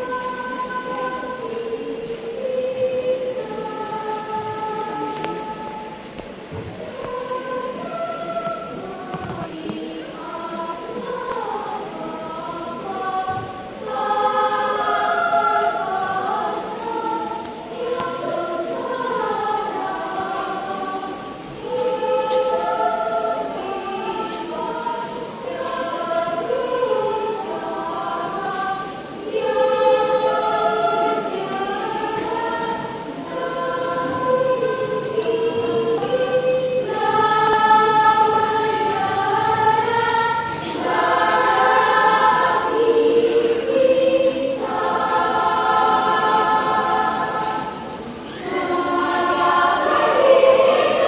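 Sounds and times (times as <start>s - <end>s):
children's choir singing: 0.0s - 51.0s.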